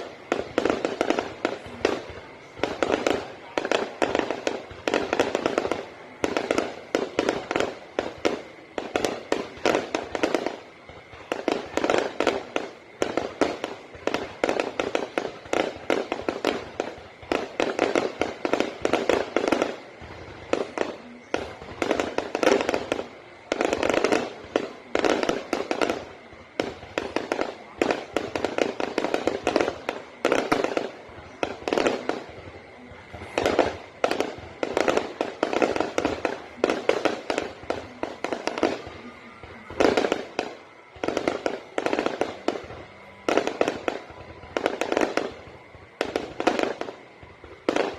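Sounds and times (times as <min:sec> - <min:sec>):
fireworks cracks and bangs: 0:00.0 - 0:47.9.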